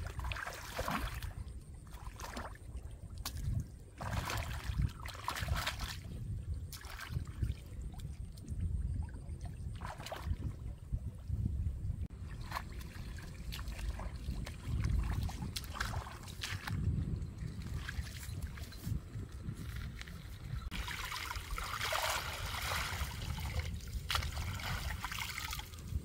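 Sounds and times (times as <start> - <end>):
muddy water splashing and sloshing: 0.0 - 26.0.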